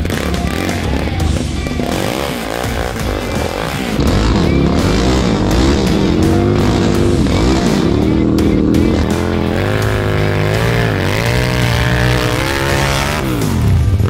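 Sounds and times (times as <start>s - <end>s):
go-kart engines revving: 0.0s - 14.0s.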